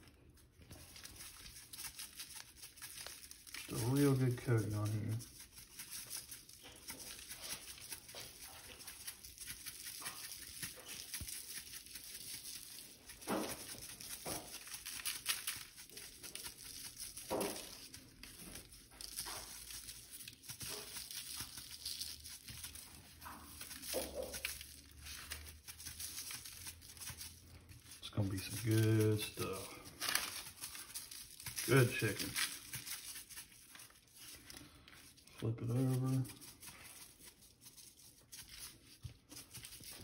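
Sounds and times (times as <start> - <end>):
spice shaker rattling: 0.8 - 40.0.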